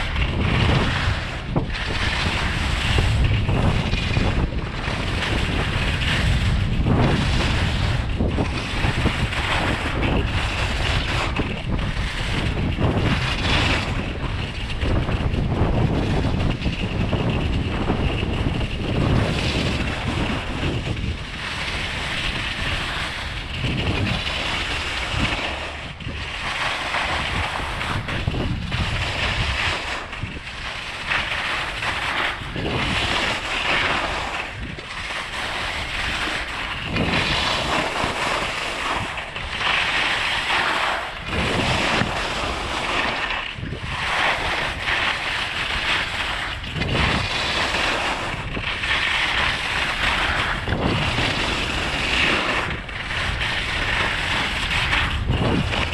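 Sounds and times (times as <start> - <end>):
skis scraping on snow: 0.0 - 55.9
wind on microphone: 0.0 - 55.9.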